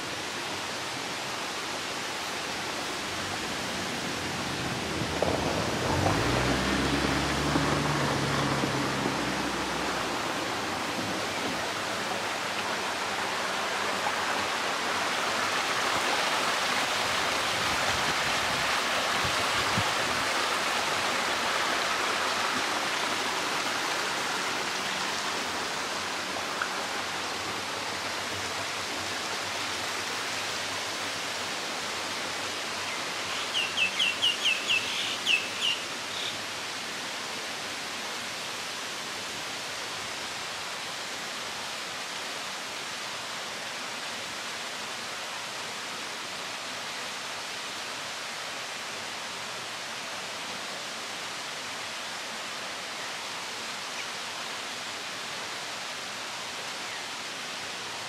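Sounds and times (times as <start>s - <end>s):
rushing outdoor background noise: 0.0s - 58.0s.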